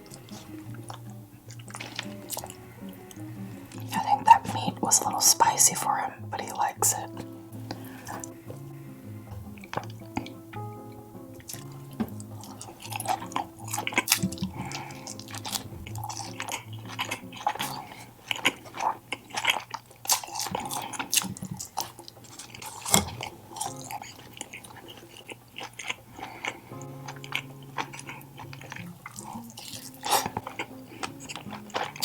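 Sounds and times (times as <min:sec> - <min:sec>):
person chewing and biting: 0:00.0 - 0:05.6, 0:09.3 - 0:32.0.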